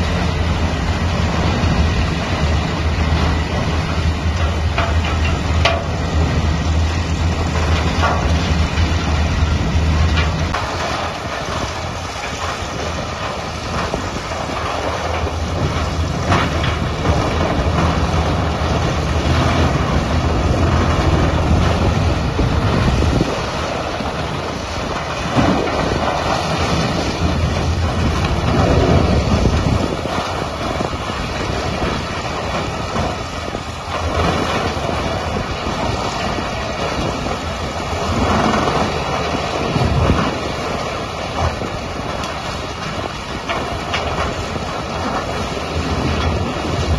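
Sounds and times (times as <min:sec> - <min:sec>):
grinding rush: 0:00.0 - 0:42.3
low engine drone: 0:00.0 - 0:46.9.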